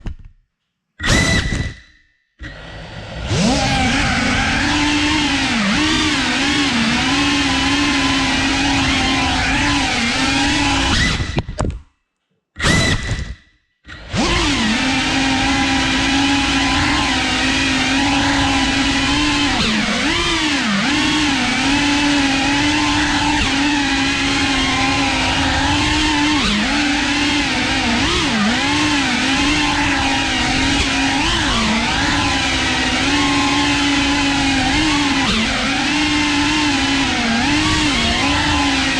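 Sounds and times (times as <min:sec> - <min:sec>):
quadcopter motors whining: 0:02.4 - 0:11.6, 0:13.9 - 0:38.9.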